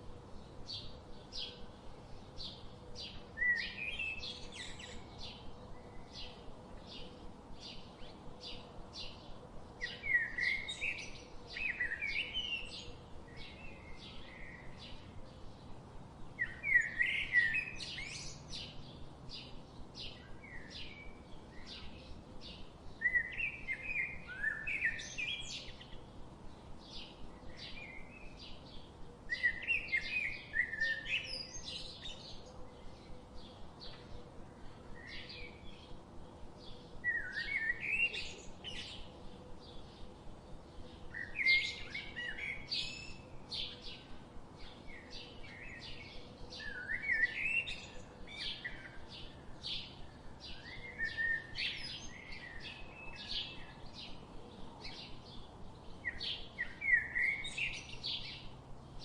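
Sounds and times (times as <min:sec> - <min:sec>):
bird warbling song: 0:00.0 - 0:15.7, 0:16.4 - 0:59.0.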